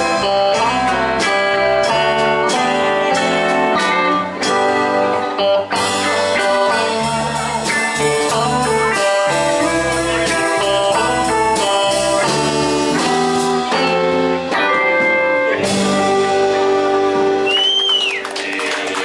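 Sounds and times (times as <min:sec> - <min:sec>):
bass guitar: 0:00.0 - 0:19.0
country-rock band playing: 0:00.0 - 0:19.0
electric guitars: 0:00.0 - 0:19.0.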